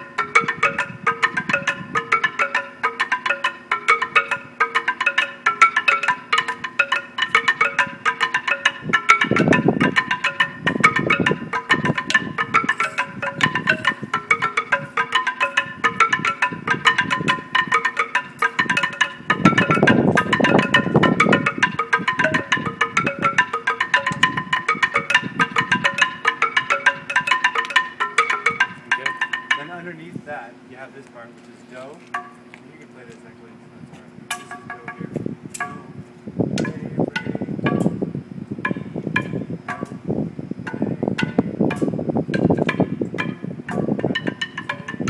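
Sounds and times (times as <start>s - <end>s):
wooden xylophone fast strikes: 0.0s - 30.1s, 34.3s - 38.0s, 40.6s - 45.0s.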